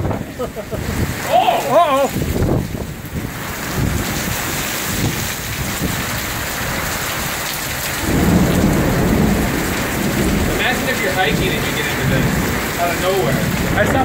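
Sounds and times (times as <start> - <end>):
heavy rain pouring: 0.0 - 14.0
thunder rumbling: 0.0 - 14.0.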